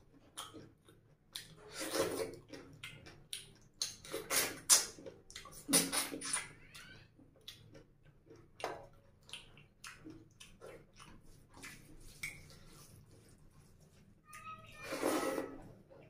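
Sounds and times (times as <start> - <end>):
wet chewing and mouth smacks: 0.1 - 14.1.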